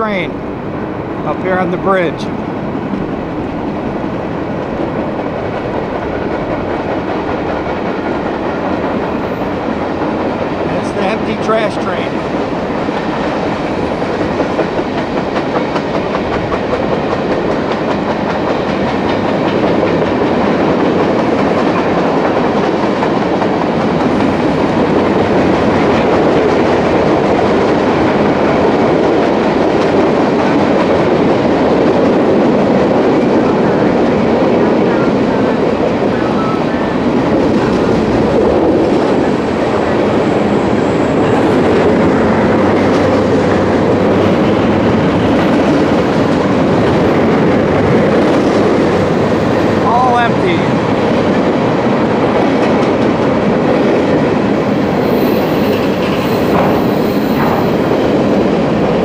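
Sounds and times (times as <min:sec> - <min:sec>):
freight cars wheel-on-rail noise: 0:00.0 - 0:59.0.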